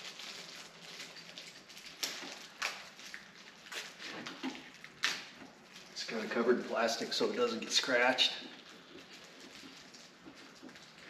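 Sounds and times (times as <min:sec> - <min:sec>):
packaging rustling and crinkling: 0:00.0 - 0:11.0
sharp crackles of packaging: 0:00.0 - 0:11.0.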